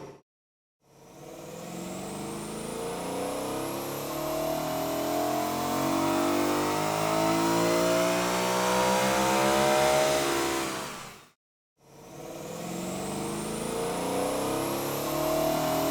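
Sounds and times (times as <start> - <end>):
car engine revving on a dyno: 1.1 - 11.2, 12.1 - 15.9.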